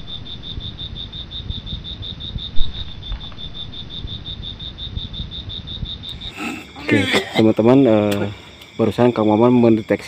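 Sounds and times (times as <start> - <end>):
insect trilling: 0.0 - 10.0.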